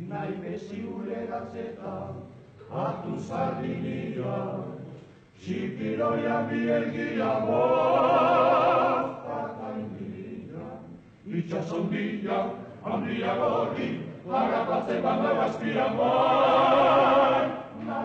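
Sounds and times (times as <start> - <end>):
men singing a cappella in harmony: 0.0 - 18.0.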